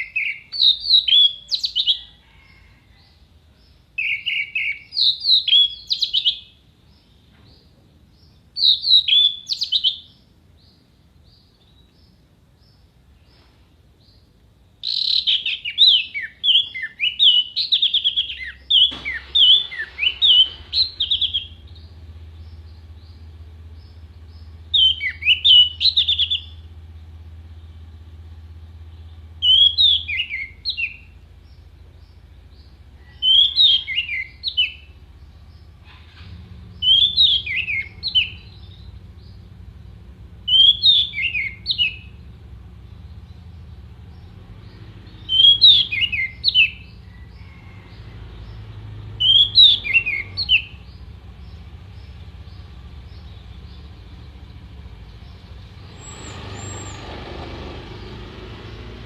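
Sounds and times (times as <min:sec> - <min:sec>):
bird whistling song: 0:00.0 - 0:02.6, 0:04.0 - 0:07.3, 0:08.3 - 0:13.5, 0:14.8 - 0:26.7, 0:28.9 - 0:31.2, 0:32.1 - 0:35.8, 0:36.7 - 0:39.5, 0:40.4 - 0:57.2.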